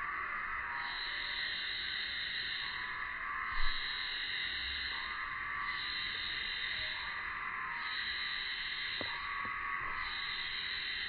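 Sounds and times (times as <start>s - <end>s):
chorus of calling animals: 0.0s - 11.0s.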